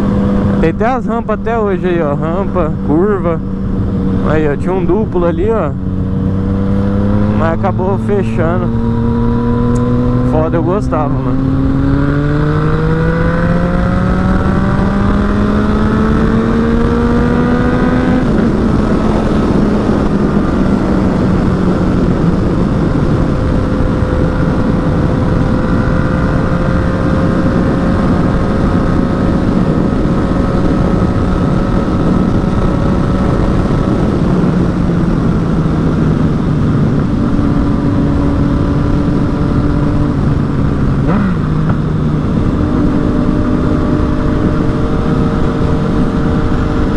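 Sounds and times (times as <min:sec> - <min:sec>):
motorcycle engine under way: 0:00.0 - 0:46.9
wind and road noise: 0:00.0 - 0:46.9.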